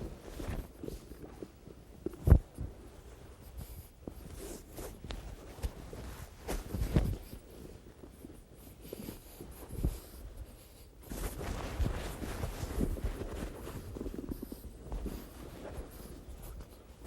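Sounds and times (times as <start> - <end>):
cloth rustling and scraping: 0.0 - 17.0.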